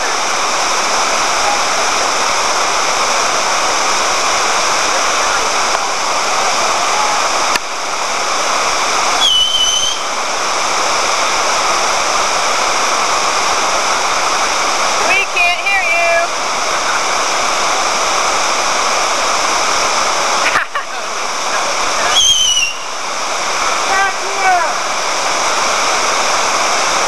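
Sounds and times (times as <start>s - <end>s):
water pouring over waterfall: 0.0s - 27.0s.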